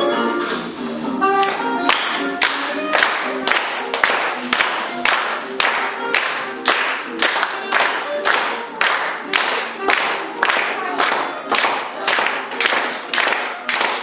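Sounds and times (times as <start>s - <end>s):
faint music: 0.0s - 14.0s
audience clapping in unison: 1.4s - 14.0s.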